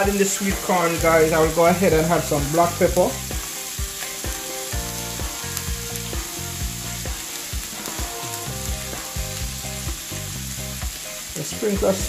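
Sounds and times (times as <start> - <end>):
background music with a beat: 0.0 - 12.0
food sizzling in a pot: 0.0 - 12.0.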